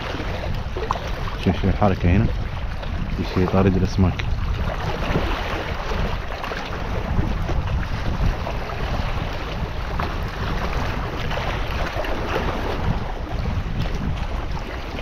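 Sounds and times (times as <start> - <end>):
sea waves: 0.0 - 15.0
wind noise on microphone: 0.0 - 15.0.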